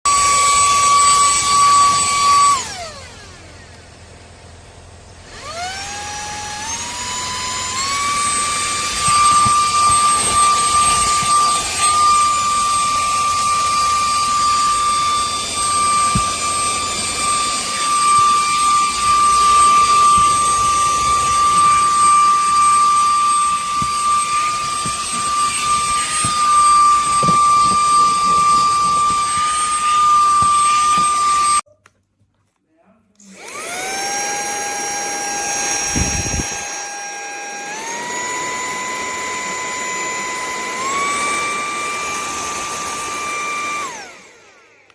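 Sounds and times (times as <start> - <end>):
handheld vacuum cleaner whining: 0.1 - 31.7, 33.2 - 44.9.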